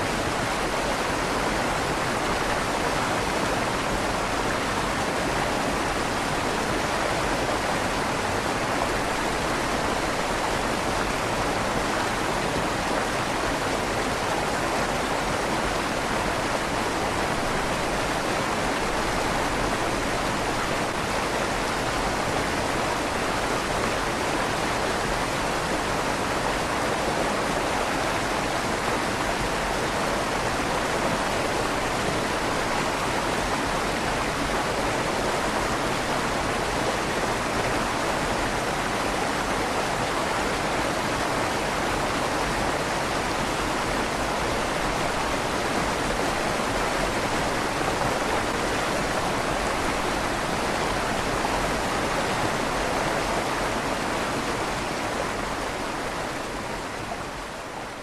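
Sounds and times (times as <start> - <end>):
river rushing through stone tunnel: 0.0 - 58.0.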